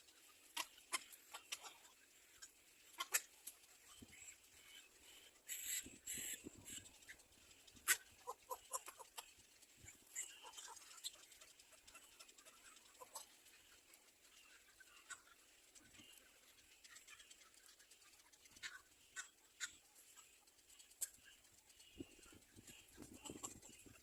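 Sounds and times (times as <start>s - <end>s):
small birds chirping and clicking: 0.0s - 24.0s.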